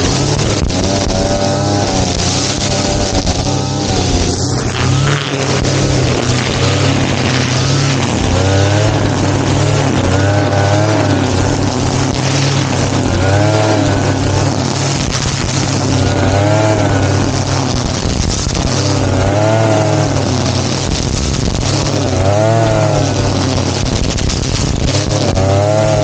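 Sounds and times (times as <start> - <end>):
brush cutter engine running: 0.0 - 26.0.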